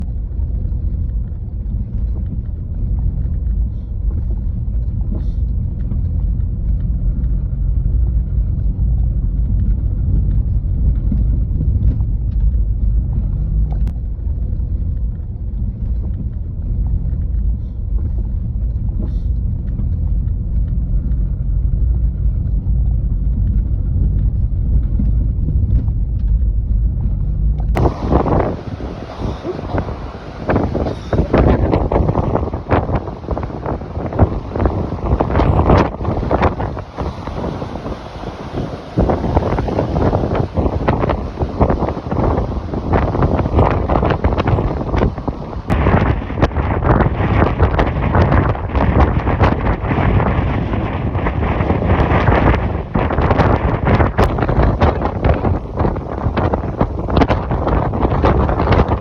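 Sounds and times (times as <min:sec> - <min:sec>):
loud low rumble: 0:00.0 - 0:59.0.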